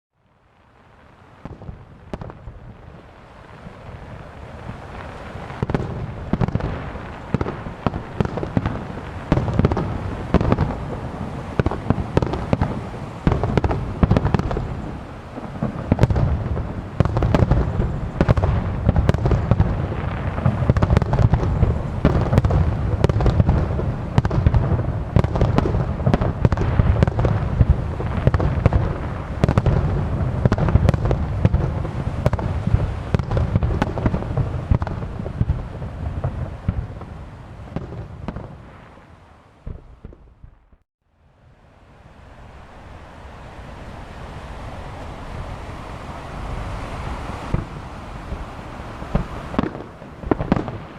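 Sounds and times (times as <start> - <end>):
fireworks bursting: 0.6 - 40.8, 43.6 - 50.9.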